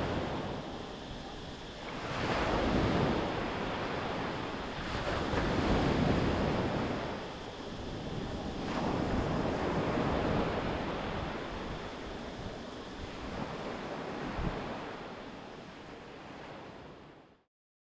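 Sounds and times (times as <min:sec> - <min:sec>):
sea waves washing on shore: 0:00.0 - 0:17.2.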